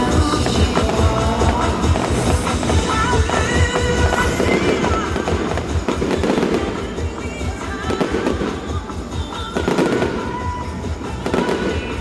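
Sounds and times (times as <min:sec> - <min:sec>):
fireworks bursting and crackling: 0:00.0 - 0:12.0
loud music: 0:00.0 - 0:12.0.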